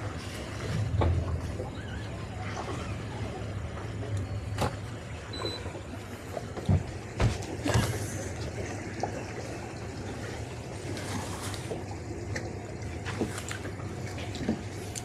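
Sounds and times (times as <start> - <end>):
boat engine running: 0.0 - 15.0
water lapping against hull: 0.0 - 15.0.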